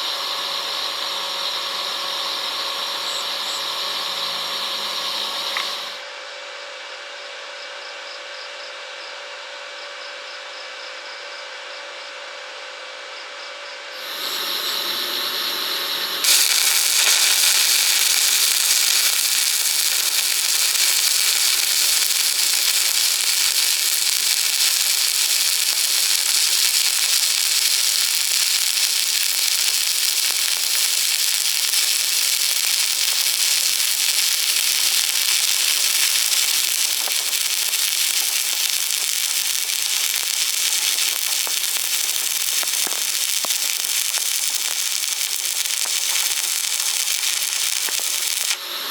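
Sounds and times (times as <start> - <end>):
welding arc crackling hiss: 0.0 - 6.0, 14.0 - 48.9.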